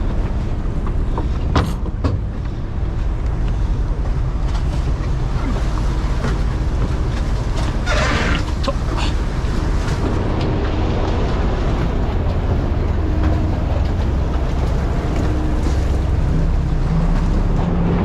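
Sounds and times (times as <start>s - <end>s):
boat engine running: 0.0s - 18.0s
water noise: 0.0s - 18.0s
wind: 0.0s - 18.0s.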